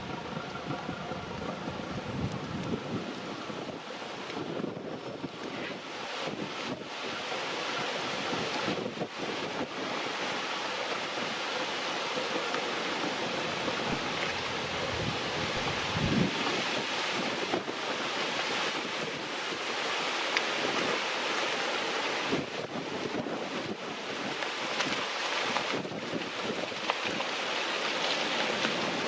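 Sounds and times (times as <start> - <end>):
wind rushing over microphone: 0.0 - 27.6.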